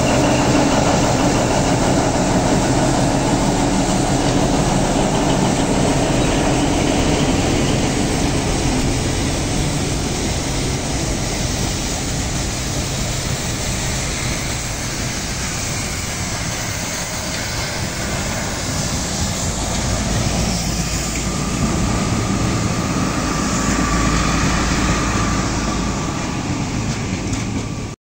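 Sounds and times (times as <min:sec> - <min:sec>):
thin steady squeal: 0:00.0 - 0:26.8
train wheels rumbling on rails: 0:00.0 - 0:28.0.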